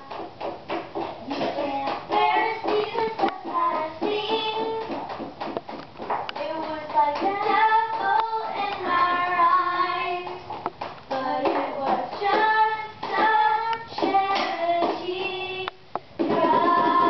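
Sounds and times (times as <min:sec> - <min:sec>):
girls singing off-key: 0:01.2 - 0:05.4, 0:06.3 - 0:10.5, 0:11.1 - 0:17.0.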